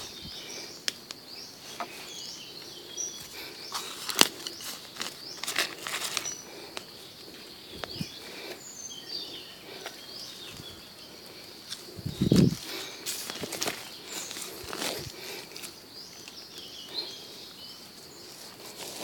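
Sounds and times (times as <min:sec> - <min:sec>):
bird chirps: 0:00.0 - 0:18.5
rustling in dry leaf litter: 0:01.4 - 0:08.5, 0:09.7 - 0:19.0.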